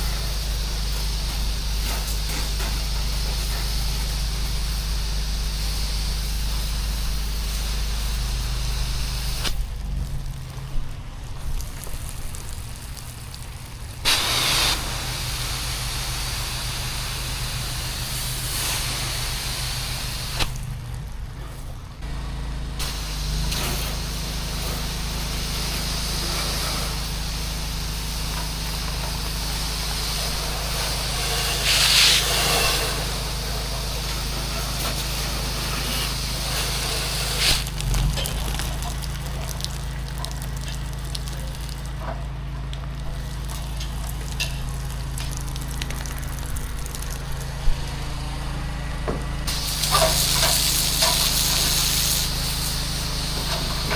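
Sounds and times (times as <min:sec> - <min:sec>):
water spray hissing: 0:00.0 - 0:21.8, 0:22.8 - 0:42.0, 0:42.9 - 0:48.1, 0:49.4 - 0:53.9
pressure washer engine running: 0:00.0 - 0:53.9.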